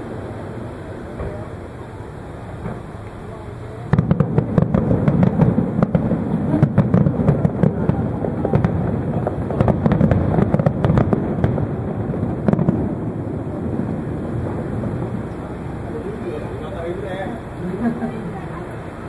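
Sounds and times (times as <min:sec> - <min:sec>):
fireworks bangs and crackling: 0:00.0 - 0:18.4
low rumble: 0:00.0 - 0:19.0.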